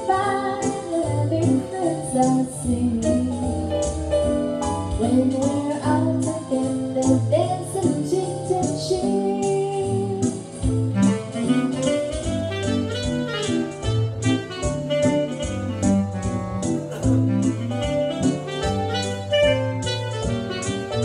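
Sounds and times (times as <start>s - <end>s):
guitar: 0.0s - 21.0s
keyboard: 0.0s - 21.0s
woman singing jazz: 0.0s - 21.0s.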